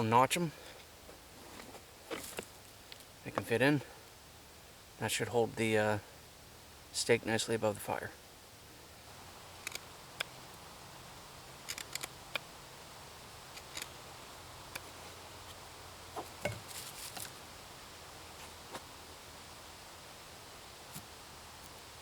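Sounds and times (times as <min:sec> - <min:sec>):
low steady background noise: 0:00.0 - 0:22.0.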